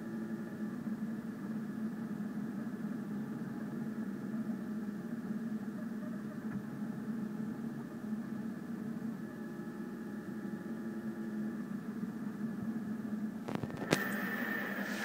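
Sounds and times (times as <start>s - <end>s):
three d printer motors humming: 0.0s - 15.0s.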